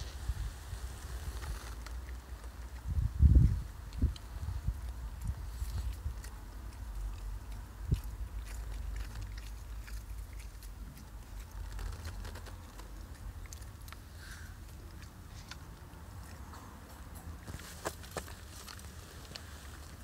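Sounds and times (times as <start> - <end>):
steady low rumble: 0.0 - 20.0
dog chewing grass: 0.4 - 20.0.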